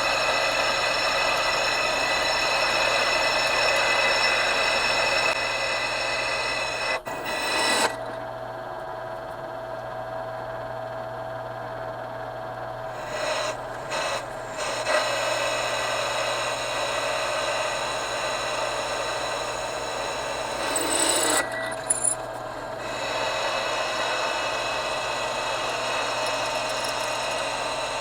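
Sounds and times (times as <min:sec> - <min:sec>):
drill press motor humming: 0:00.0 - 0:08.5, 0:12.9 - 0:28.0.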